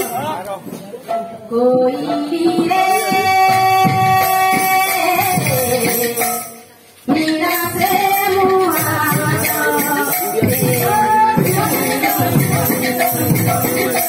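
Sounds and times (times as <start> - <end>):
rhythmic percussion: 0.0 - 14.0
person singing: 1.5 - 14.0.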